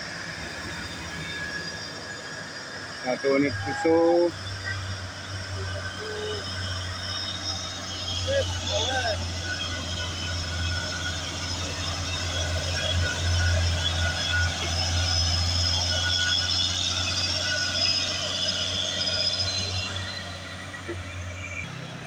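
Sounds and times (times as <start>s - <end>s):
diesel truck engine drone: 0.0s - 22.0s
high engine whine: 0.0s - 22.0s.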